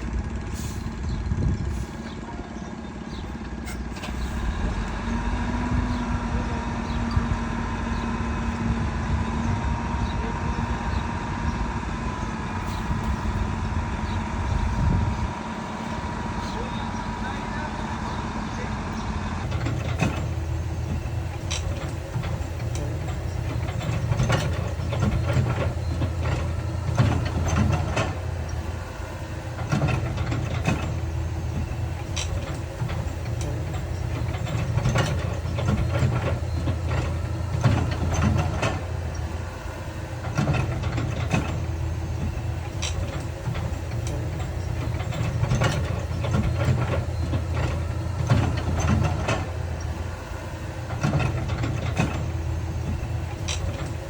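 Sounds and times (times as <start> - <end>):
heavy diesel machine running: 0.0 - 54.0.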